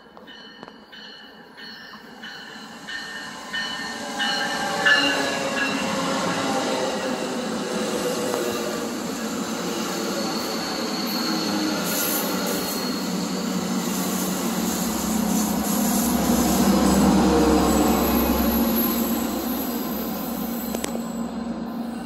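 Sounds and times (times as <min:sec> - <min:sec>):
train passing: 0:00.0 - 0:22.0.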